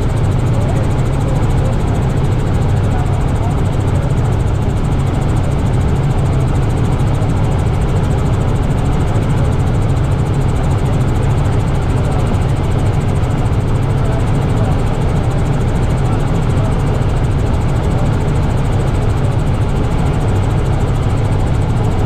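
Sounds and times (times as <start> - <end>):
helicopter rotor and engine drone: 0.0 - 22.0.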